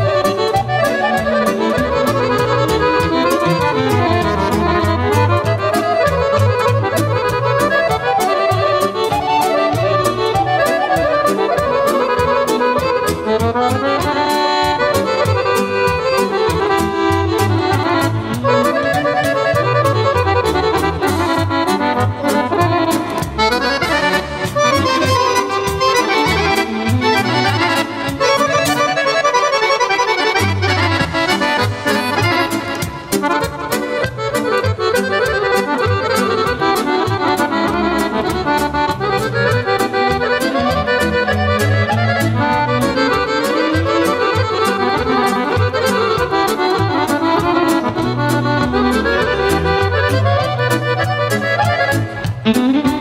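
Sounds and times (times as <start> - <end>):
drum kit beat: 0.0 - 29.2, 29.8 - 53.0
accordions playing folk melody: 0.0 - 53.0
violin playing: 0.0 - 53.0.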